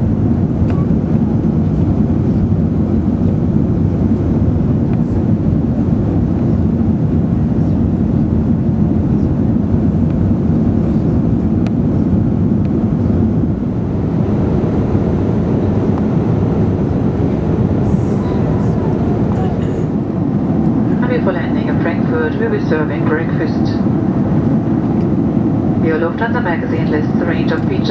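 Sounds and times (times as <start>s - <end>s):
airplane cabin engine rumble: 0.0s - 27.9s.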